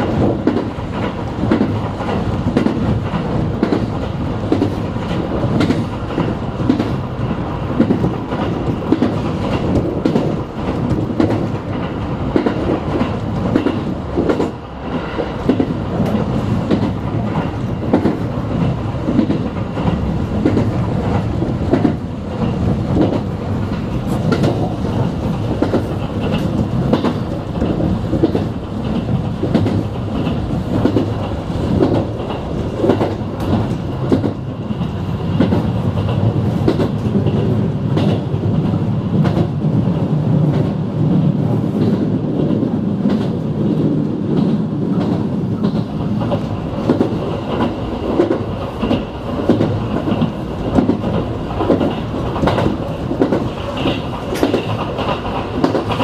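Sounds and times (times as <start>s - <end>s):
train wheels rumbling on rail: 0.0s - 56.0s
wheels clicking over rail joints: 0.0s - 56.0s.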